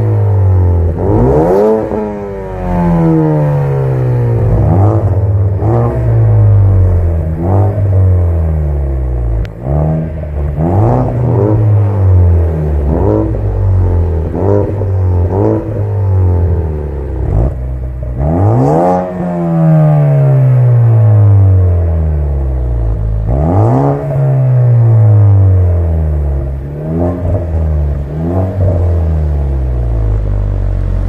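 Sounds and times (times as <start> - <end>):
car engine rev blips: 0.0 - 31.0.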